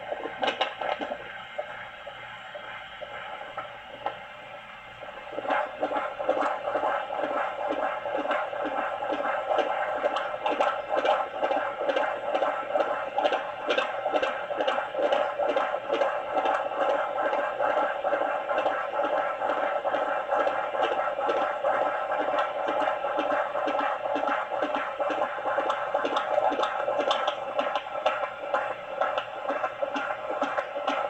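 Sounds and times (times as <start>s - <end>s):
fast heartbeat pulsing: 0.0s - 1.8s, 2.5s - 31.0s.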